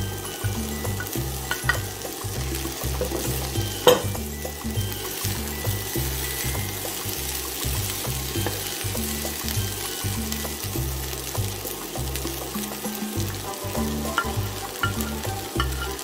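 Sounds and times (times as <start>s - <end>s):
background music with bass: 0.0s - 16.0s
rice sizzling in a frying pan: 0.0s - 16.0s.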